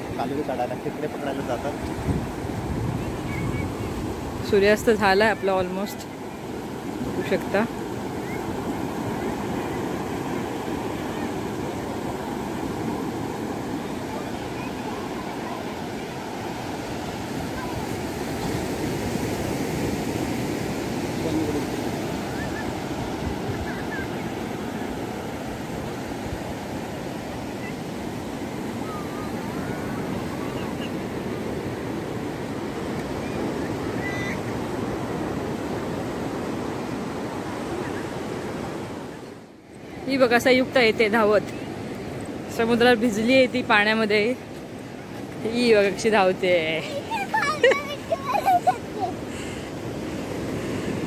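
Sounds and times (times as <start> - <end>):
sea waves breaking on beach: 0.0 - 51.0.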